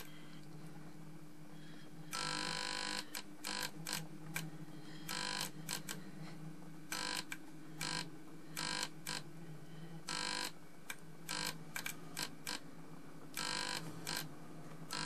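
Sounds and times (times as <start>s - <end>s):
fluorescent tube humming: 0.0s - 15.0s
harsh electrical buzzing bursts: 2.0s - 15.0s.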